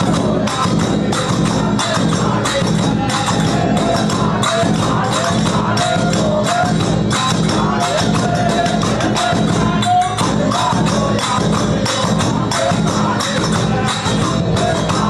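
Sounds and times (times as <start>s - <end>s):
jingling percussion beat: 0.0s - 15.0s.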